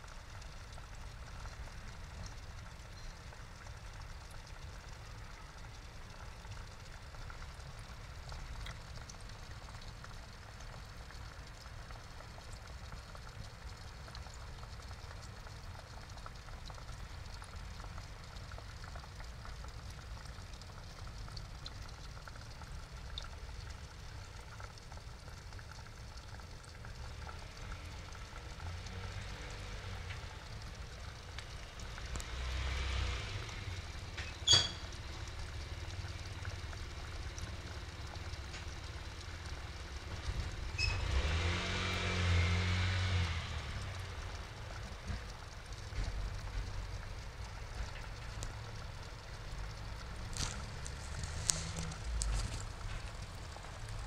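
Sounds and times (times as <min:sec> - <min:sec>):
water pouring into pond: 0:00.0 - 0:54.0.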